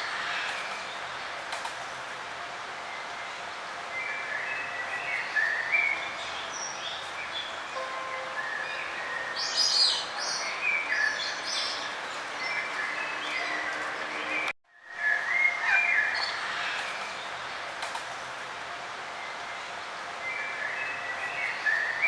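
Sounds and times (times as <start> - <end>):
steady background hiss: 0.0 - 13.2, 14.8 - 22.0
songbirds chirping: 0.0 - 22.0.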